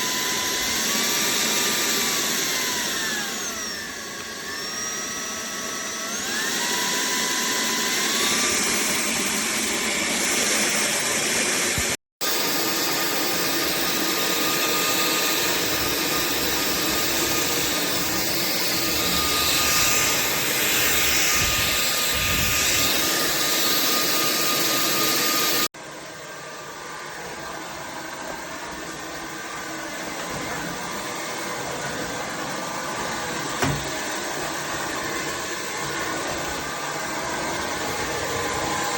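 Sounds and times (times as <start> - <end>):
stick vacuum running: 0.0 - 25.7, 26.8 - 38.9.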